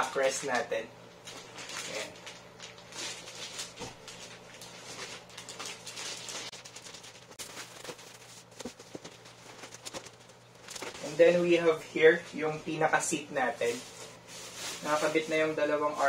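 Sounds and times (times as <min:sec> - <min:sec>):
plastic wrap crinkling: 0:00.2 - 0:16.0.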